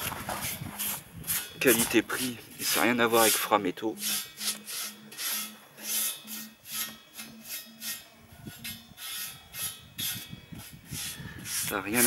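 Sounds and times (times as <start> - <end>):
paintbrush brushing on steel bar: 0.3 - 12.0.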